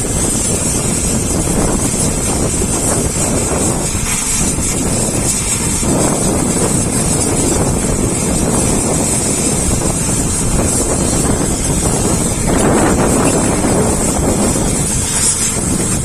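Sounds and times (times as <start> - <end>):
helicopter rotor and engine: 0.0 - 16.0
wind buffeting microphone: 0.0 - 16.0.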